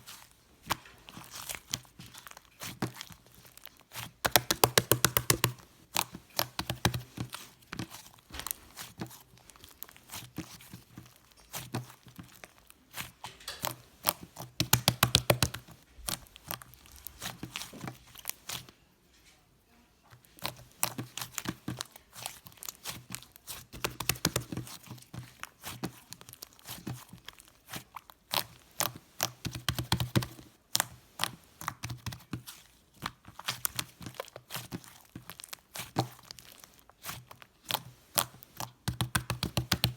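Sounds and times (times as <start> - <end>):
slime clicking and crackling: 0.0 - 18.7, 20.2 - 39.9.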